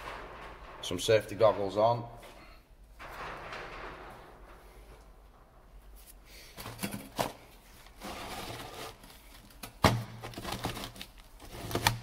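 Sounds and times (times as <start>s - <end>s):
workshop clicks and knocks: 0.0s - 8.1s, 9.4s - 12.0s.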